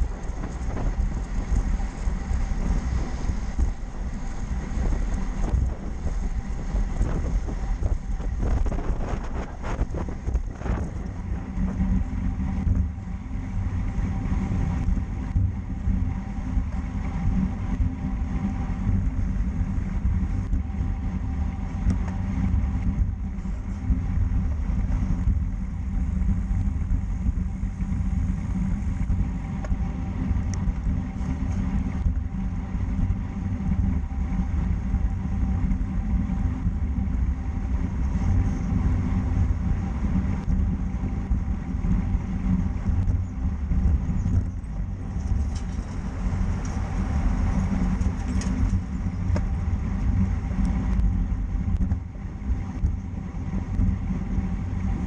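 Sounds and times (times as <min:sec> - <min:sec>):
road bike road noise: 0:00.0 - 0:55.0
wind rumble on microphone: 0:00.0 - 0:55.0.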